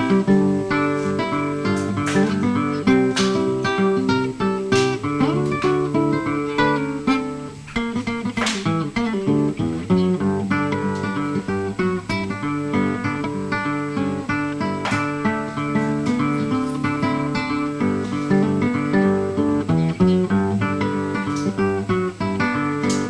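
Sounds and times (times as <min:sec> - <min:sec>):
acoustic guitar picked and strummed: 0:00.0 - 0:23.0.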